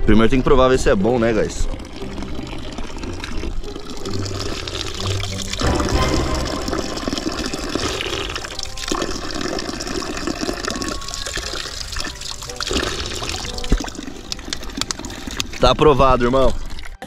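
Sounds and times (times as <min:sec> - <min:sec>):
running water splashing: 0:01.6 - 0:17.0.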